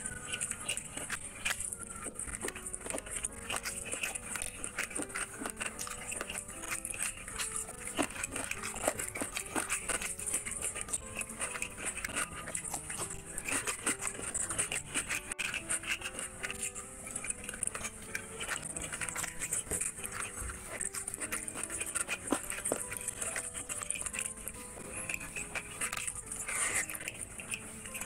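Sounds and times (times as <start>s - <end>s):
wet chewing and lip-smacking: 0.0s - 28.0s.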